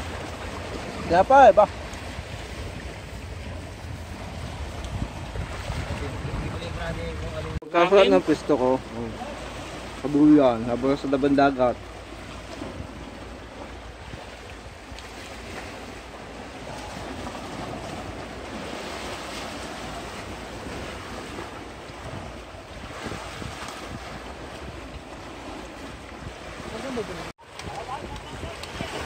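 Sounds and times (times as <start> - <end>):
wind on microphone: 0.0 - 7.6, 12.2 - 29.0
waves breaking over rocks: 0.0 - 29.0.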